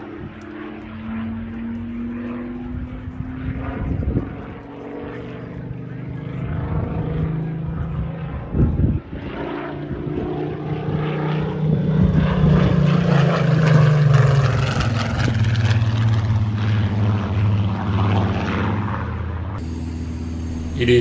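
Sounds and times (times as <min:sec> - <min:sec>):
propeller plane flying by: 0:00.0 - 0:21.0.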